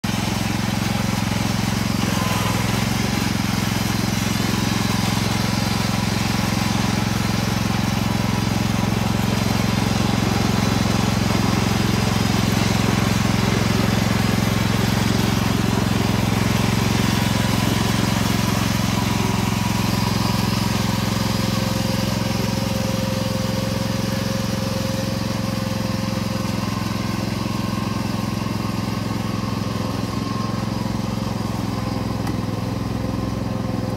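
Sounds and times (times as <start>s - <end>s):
riding lawn mower engine: 0.0s - 33.9s.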